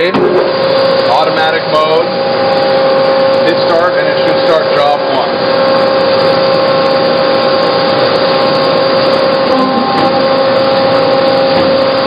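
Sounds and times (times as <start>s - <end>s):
bandsaw hum and whine: 0.0s - 12.0s.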